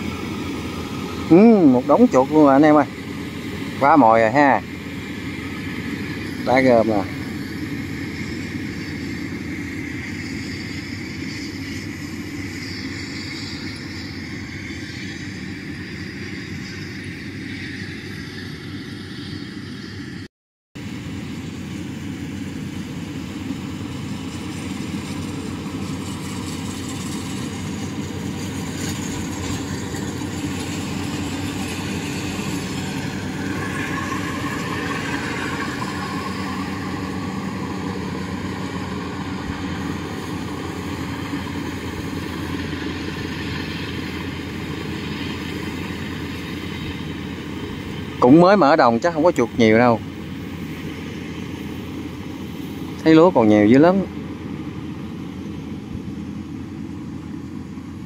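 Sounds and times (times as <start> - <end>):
combine harvester engine running: 0.0 - 20.2, 20.8 - 58.0.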